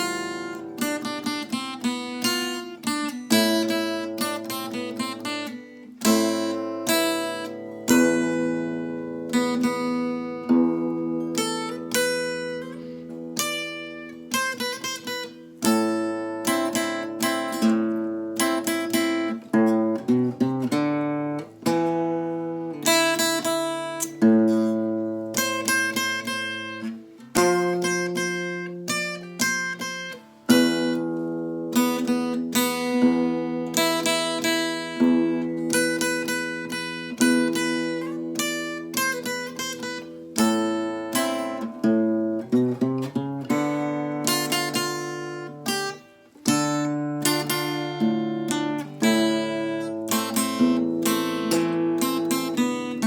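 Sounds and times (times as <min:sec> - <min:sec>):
acoustic guitar plucked melody: 0:00.0 - 0:53.0.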